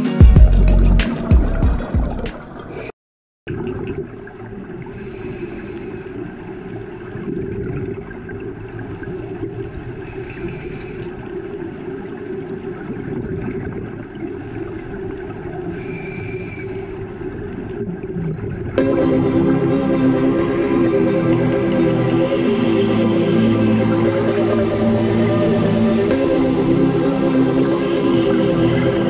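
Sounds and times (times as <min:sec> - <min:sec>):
underwater rush of water: 0:03.5 - 0:29.0.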